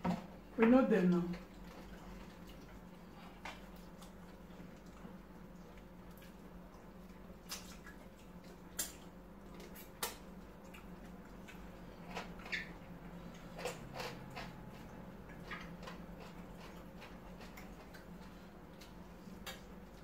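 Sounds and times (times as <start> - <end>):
faint low hum: 0.0 - 20.0
chewing and lip smacking: 1.3 - 20.0.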